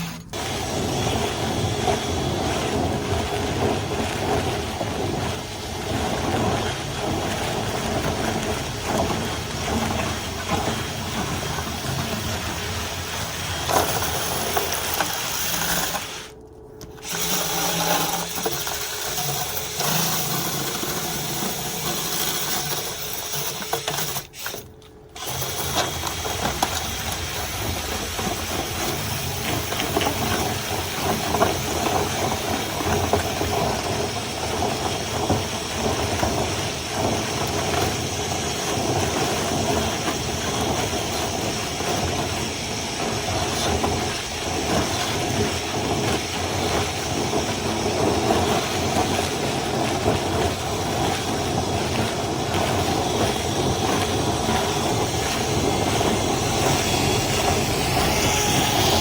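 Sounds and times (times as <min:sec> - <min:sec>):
motor running with airy hiss: 0:00.0 - 0:16.4, 0:17.0 - 0:59.0.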